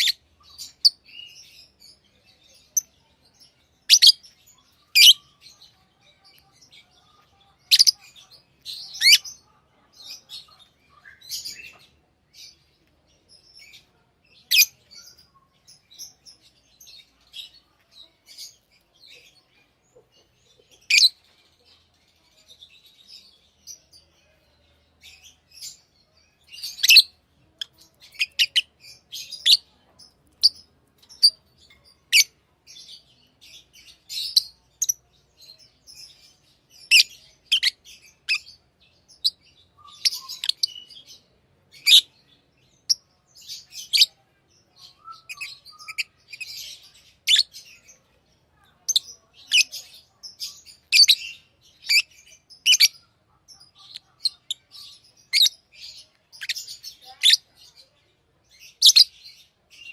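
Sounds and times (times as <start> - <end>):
lovebirds chirping: 0.0 - 59.9.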